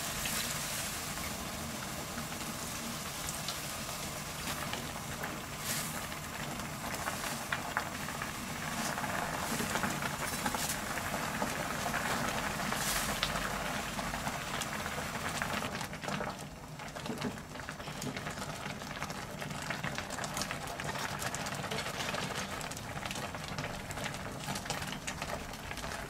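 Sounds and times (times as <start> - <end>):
broth bubbling at a boil: 0.0 - 26.0.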